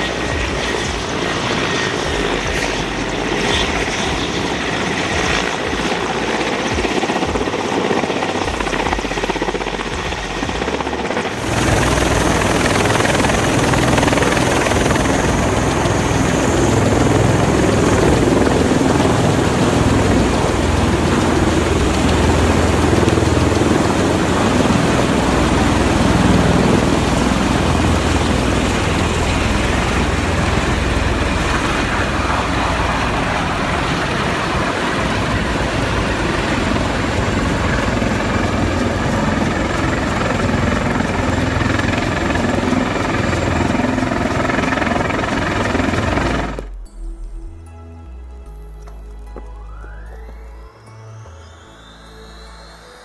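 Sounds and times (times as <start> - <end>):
aircraft rotors and engines: 0.0 - 46.9.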